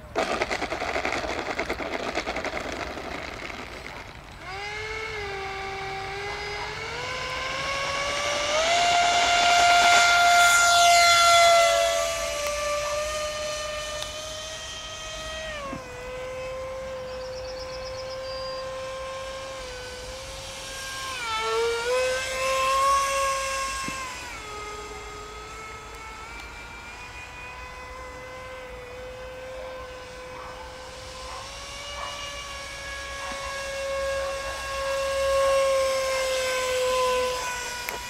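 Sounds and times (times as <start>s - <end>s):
model jet engine whine: 0.0s - 38.0s.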